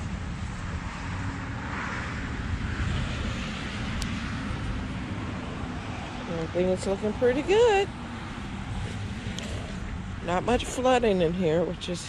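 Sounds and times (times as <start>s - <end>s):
steady outdoor hiss: 0.0s - 12.0s
wind buffeting microphone: 0.0s - 12.0s.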